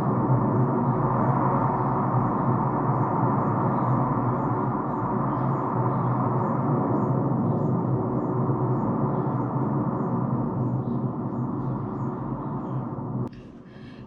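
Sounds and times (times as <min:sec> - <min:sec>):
cable car mechanical drone: 0:00.0 - 0:14.0.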